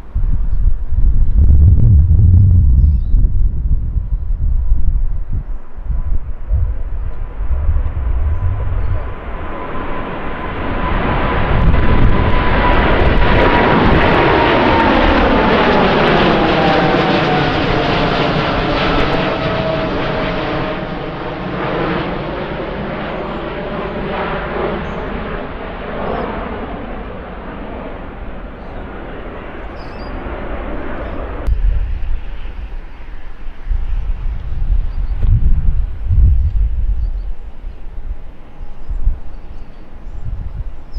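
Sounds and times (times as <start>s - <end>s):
jet engine whine passing: 0.0s - 40.9s
wind rumbling on microphone: 0.0s - 40.9s.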